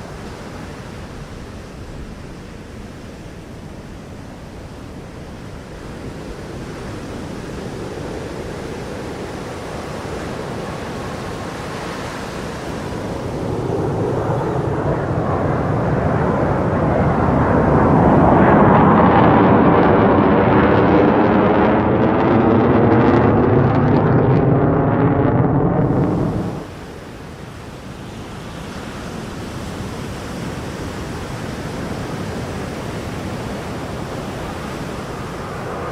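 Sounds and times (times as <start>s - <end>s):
fighter jet roaring overhead: 0.0s - 35.9s.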